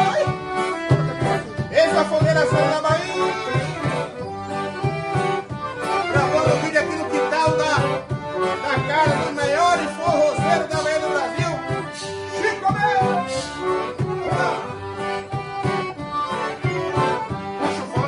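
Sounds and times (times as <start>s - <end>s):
accordion melody: 0.0s - 18.0s
steady drum beat: 0.0s - 18.0s.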